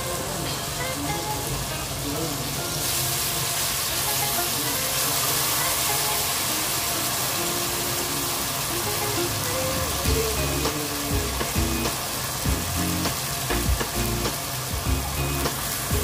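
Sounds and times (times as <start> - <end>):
sauce sizzling in hot pan: 2.4 - 16.0.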